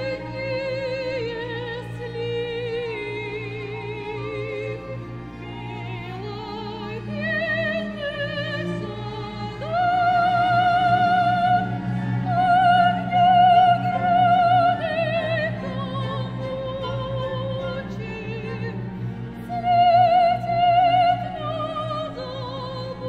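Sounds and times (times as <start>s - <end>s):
soprano singing with vibrato: 0.0s - 23.0s
strings accompaniment: 0.0s - 23.0s.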